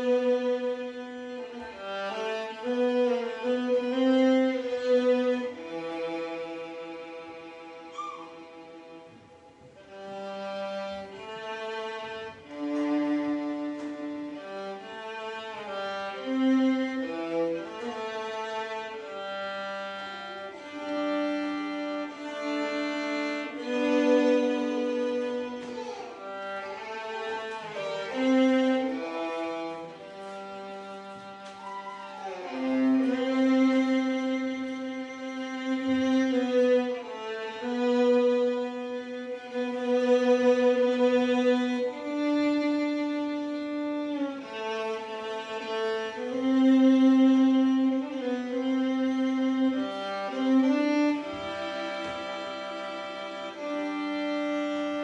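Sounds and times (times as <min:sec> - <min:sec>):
solo violin melody: 0:00.0 - 0:55.0.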